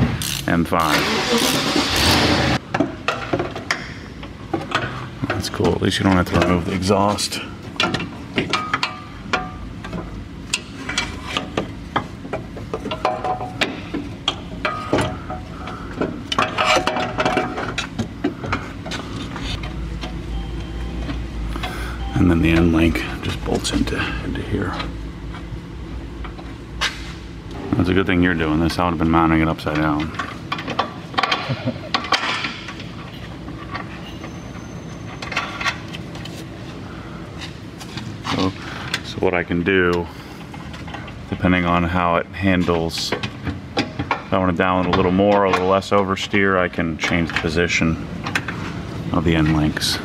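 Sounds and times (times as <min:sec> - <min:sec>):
steady shop hum: 0:00.0 - 0:50.0.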